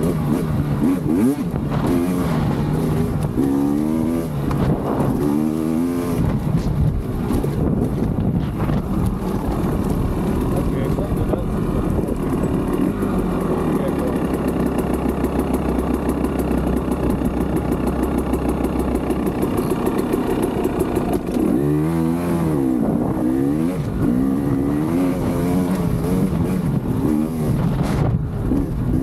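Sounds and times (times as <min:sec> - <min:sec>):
two-stroke engine revving: 0:00.0 - 0:29.0.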